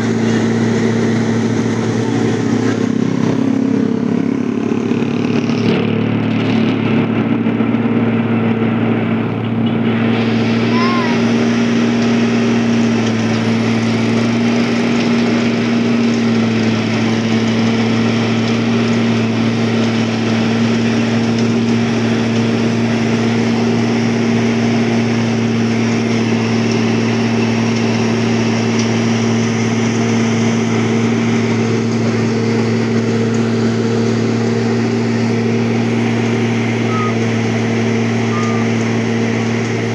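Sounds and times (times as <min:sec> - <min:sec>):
machinery engine droning: 0:00.0 - 0:39.9.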